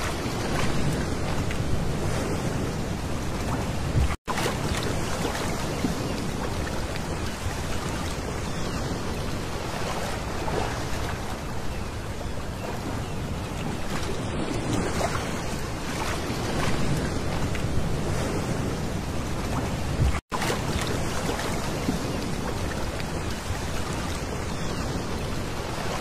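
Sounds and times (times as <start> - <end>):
waves washing over pebbles: 0.0 - 11.5, 13.7 - 26.0.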